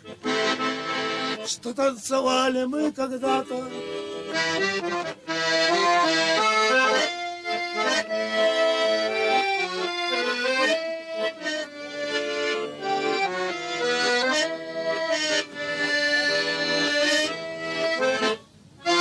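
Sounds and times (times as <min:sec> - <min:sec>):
accordion playing tango: 0:00.0 - 0:19.0.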